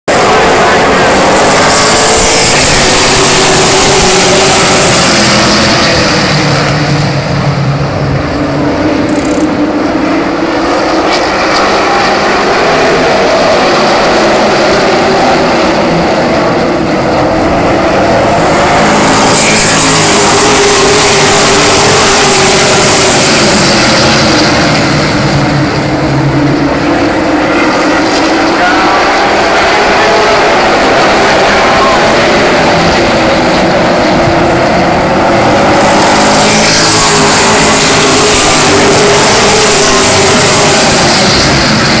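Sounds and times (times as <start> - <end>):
racing truck engines: 0.0 - 42.0.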